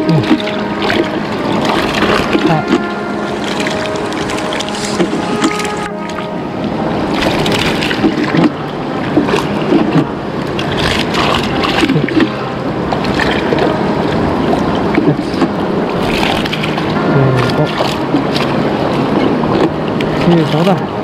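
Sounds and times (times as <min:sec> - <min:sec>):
fast river water rushing: 0:00.0 - 0:21.0.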